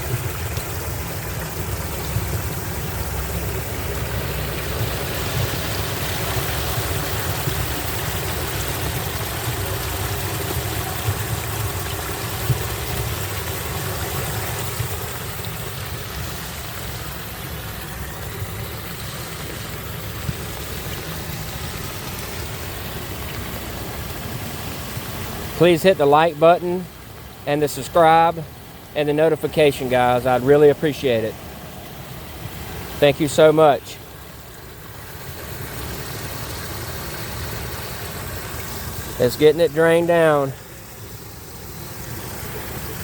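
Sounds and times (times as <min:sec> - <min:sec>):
constant low rumble: 0:00.0 - 0:43.0
floodwater rushing down a drain: 0:00.0 - 0:43.0.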